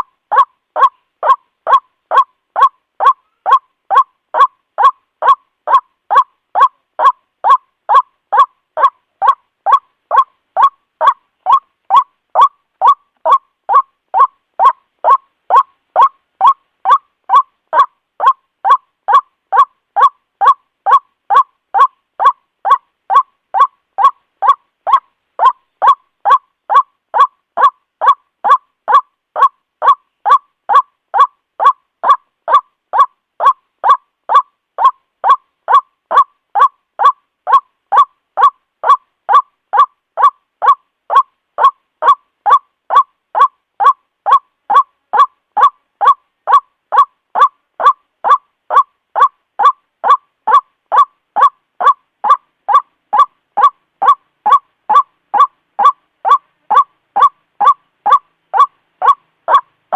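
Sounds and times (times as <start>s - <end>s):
waterhen calls: 0.0s - 59.9s.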